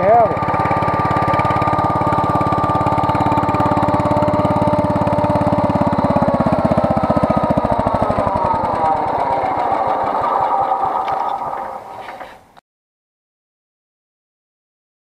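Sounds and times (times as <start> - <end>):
single-cylinder engine running: 0.0 - 12.5.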